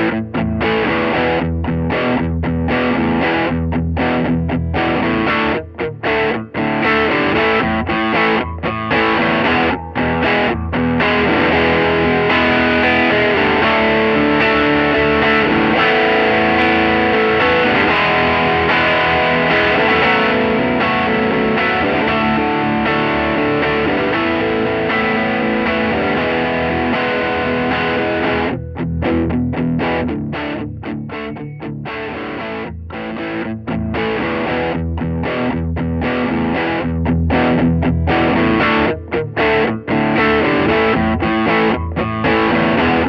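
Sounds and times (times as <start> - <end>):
distorted electric guitar chords: 0.0 - 43.0.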